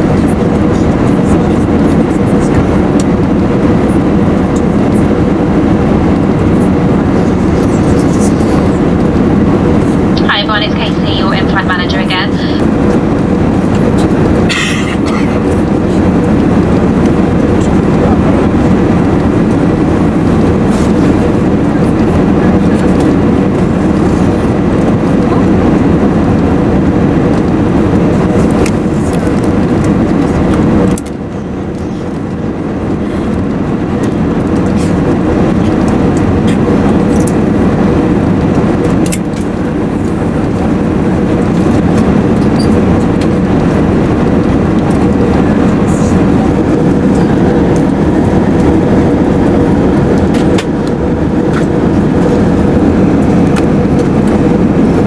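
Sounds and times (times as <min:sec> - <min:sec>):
air rushing past aircraft cabin: 0:00.0 - 0:55.0
faint steady hum: 0:00.1 - 0:55.0.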